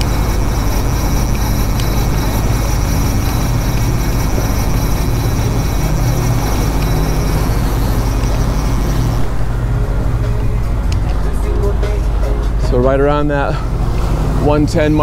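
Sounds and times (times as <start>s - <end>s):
churning water rushing: 0.0s - 15.0s
outboard motors droning: 0.0s - 15.0s.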